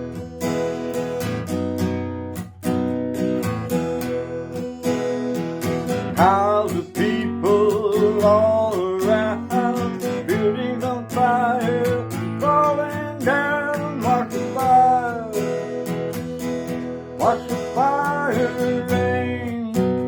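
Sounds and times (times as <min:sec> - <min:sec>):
acoustic guitar strumming chords: 0:00.0 - 0:20.0
guitar melody with bending notes: 0:00.0 - 0:20.0.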